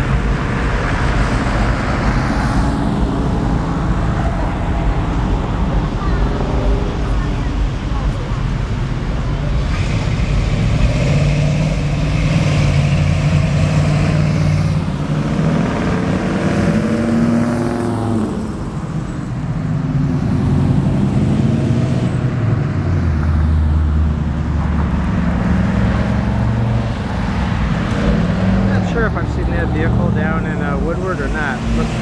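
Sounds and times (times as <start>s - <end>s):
car engines driving past: 0.0s - 32.0s
deep engine rumble: 0.0s - 32.0s.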